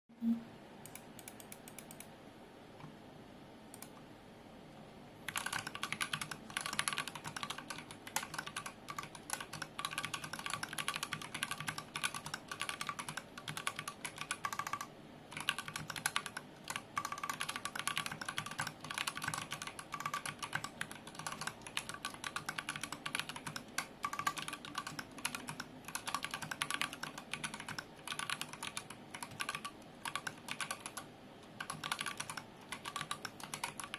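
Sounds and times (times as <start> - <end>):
mechanical keyboard typing: 0.8 - 2.1, 5.3 - 33.9.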